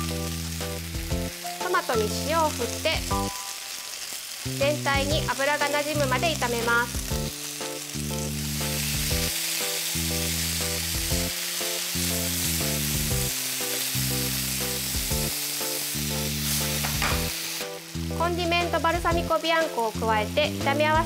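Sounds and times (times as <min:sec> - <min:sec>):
background music: 0:00.0 - 0:21.0
food sizzling in a frying pan: 0:00.0 - 0:21.0.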